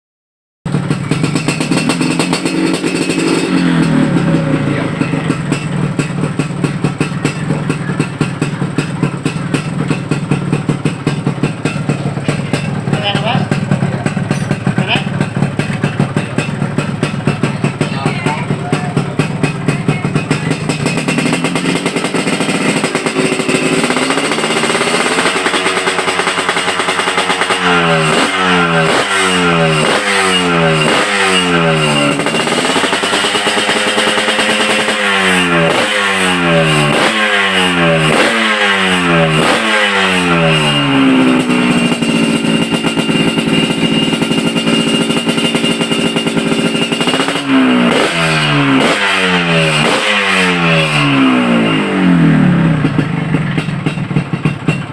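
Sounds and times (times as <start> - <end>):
motorcycle engine revving: 0.7 - 54.9.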